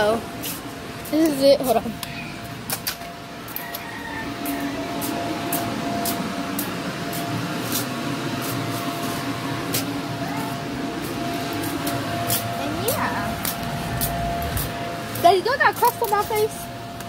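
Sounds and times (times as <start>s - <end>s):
electric fan motor humming: 0.0s - 17.0s.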